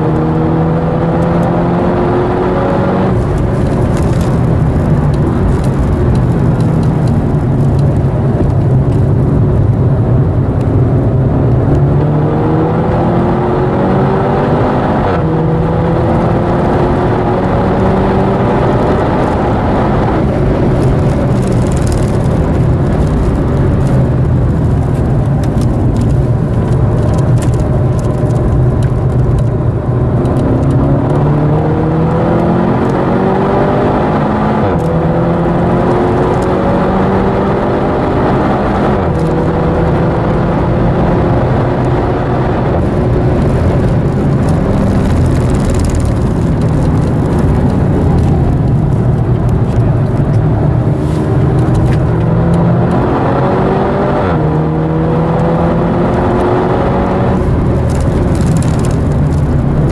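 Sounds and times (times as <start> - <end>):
car engine revving and shifting: 0.0 - 59.9
road and tyre noise: 0.0 - 59.9.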